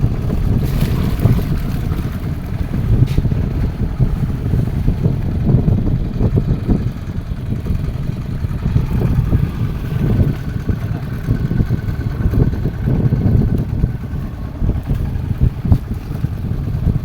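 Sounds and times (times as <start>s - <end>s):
boat engine running: 0.0s - 17.0s
wind rumbling on microphone: 0.0s - 17.0s.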